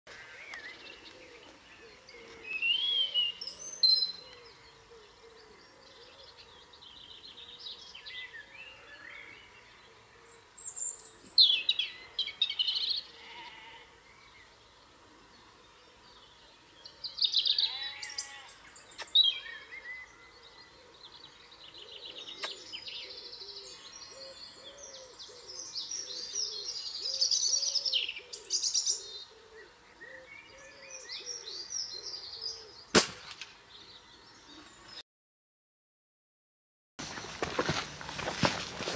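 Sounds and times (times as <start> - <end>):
songbirds warbling: 0.1 - 35.0.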